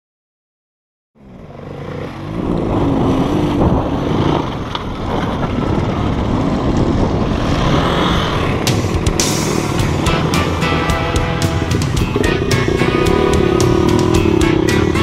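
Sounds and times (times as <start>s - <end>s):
dirt bike engine running: 1.2s - 15.0s.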